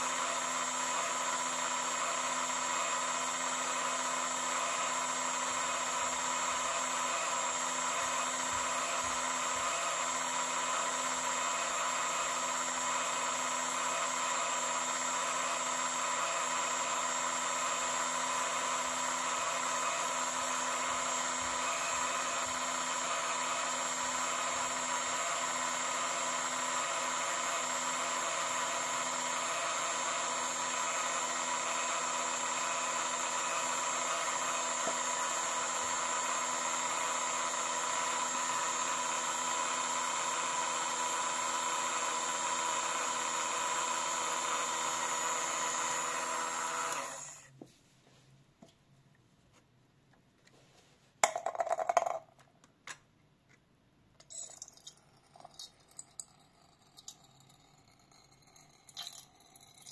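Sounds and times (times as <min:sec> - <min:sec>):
small electric motor whirring: 0:00.0 - 0:47.5, 0:54.3 - 0:59.9.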